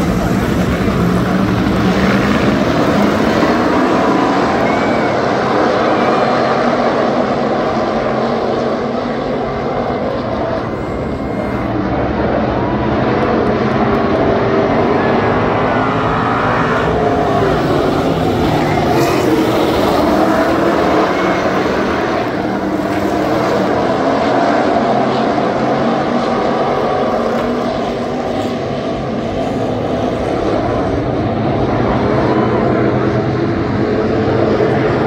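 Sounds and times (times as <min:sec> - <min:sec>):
race car engines droning: 0:00.0 - 0:35.0.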